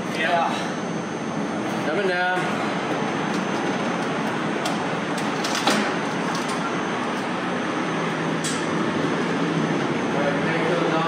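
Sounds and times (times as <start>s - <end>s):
mechanical running noise: 0.0s - 11.0s.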